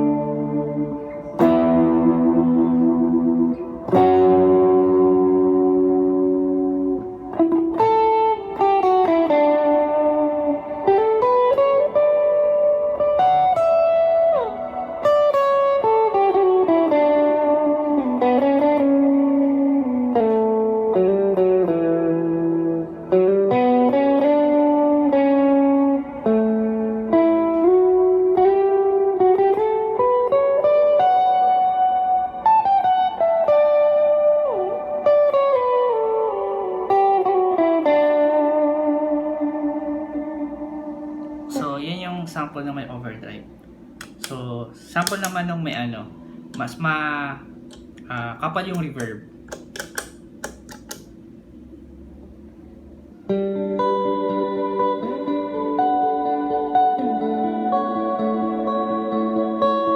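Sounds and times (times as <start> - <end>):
overdriven electric guitar: 0.0 - 41.8, 53.2 - 59.9.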